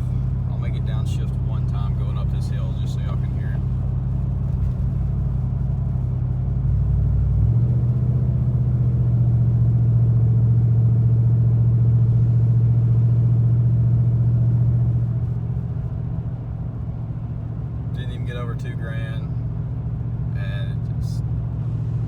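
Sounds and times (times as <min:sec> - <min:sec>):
truck exhaust drone: 0:00.0 - 0:22.0.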